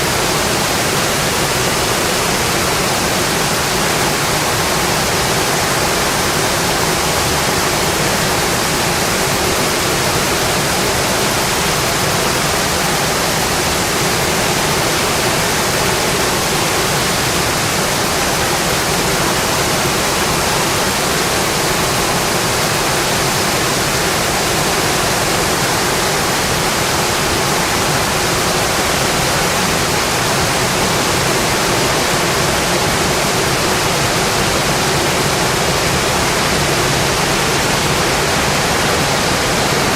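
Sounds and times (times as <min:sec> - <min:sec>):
rain on a windowpane: 0:00.0 - 0:39.9.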